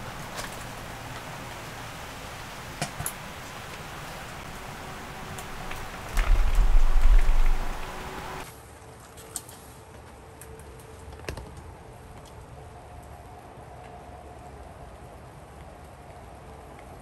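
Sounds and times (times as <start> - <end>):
rain falling on a tent: 0.0 - 17.0.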